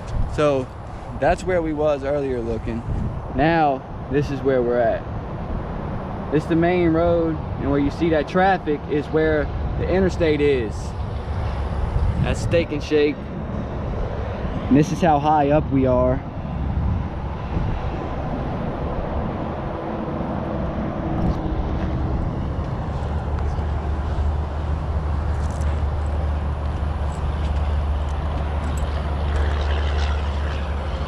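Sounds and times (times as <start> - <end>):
distant road traffic rumble: 0.0 - 31.0.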